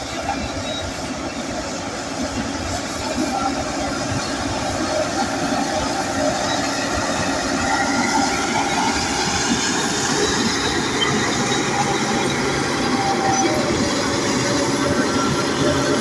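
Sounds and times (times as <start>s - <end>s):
bulldozer diesel engine under load: 0.0s - 16.0s
steel tracks moving: 0.0s - 16.0s.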